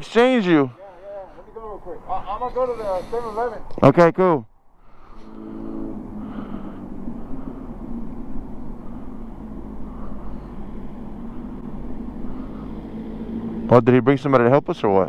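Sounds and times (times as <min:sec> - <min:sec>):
engine humming: 0:00.0 - 0:15.0
outdoor traffic noise: 0:00.0 - 0:15.0.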